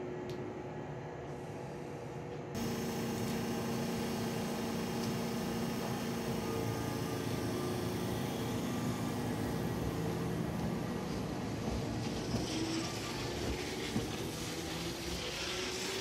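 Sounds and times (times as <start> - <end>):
train running gear rumble: 2.3 - 16.0.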